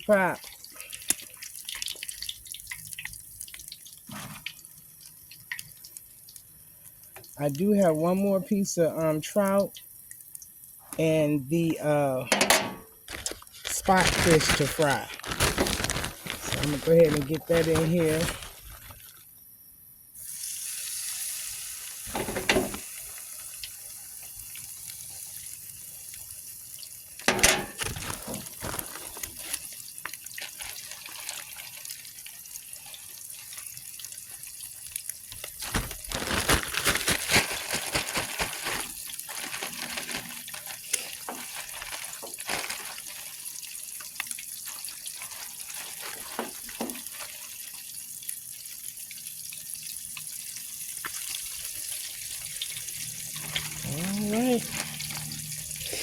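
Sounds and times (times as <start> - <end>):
fish sizzling in hot oil: 0.0 - 11.0, 12.1 - 56.0
oil crackling and popping: 0.0 - 19.4, 20.2 - 56.0.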